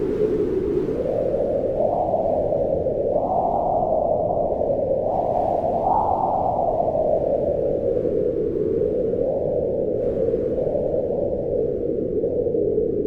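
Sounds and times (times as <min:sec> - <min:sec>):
wind howling: 0:00.0 - 0:13.0.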